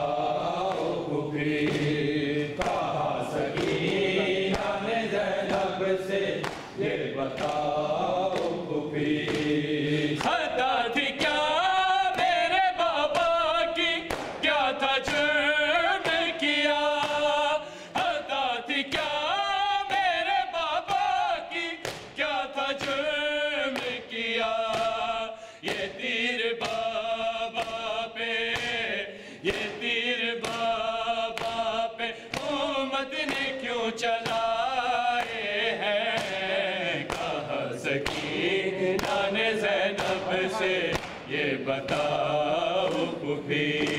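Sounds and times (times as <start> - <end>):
men chanting together: 0.0 - 43.9.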